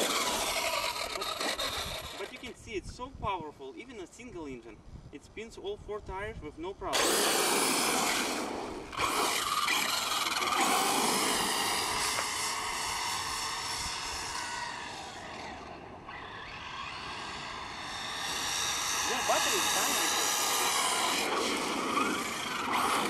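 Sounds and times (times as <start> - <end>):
electric motor and gear whine: 0.0 - 2.6, 6.9 - 23.0.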